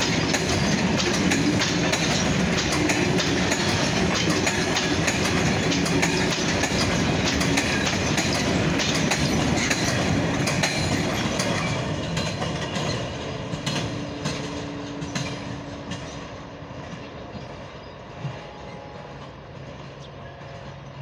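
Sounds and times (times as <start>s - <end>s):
freight train rolling past: 0.0s - 21.0s
wheels clicking over rail joints: 0.0s - 21.0s.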